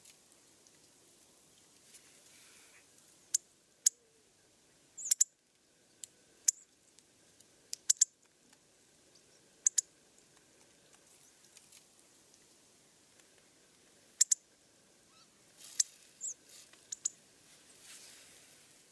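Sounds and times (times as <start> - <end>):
small birds ticking calls: 0.0 - 17.2.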